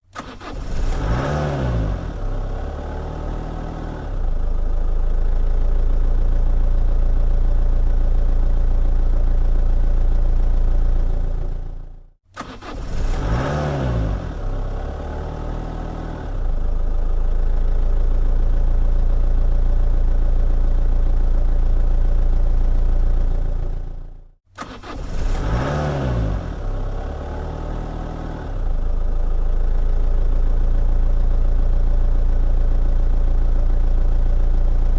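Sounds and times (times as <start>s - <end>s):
car engine starting and running: 0.0s - 34.9s.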